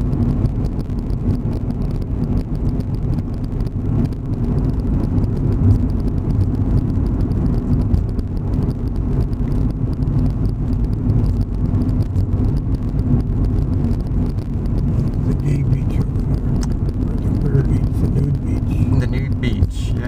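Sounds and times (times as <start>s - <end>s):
engine and road rumble: 0.0s - 20.0s
faint steady hum: 0.0s - 20.0s.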